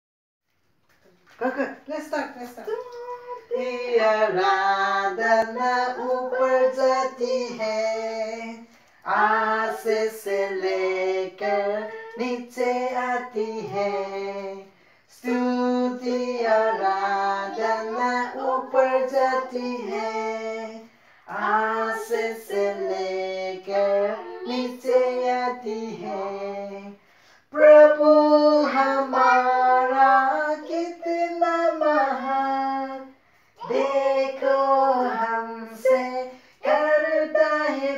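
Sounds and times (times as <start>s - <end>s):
woman singing unaccompanied: 2.7s - 14.6s, 15.2s - 26.9s, 27.6s - 37.9s.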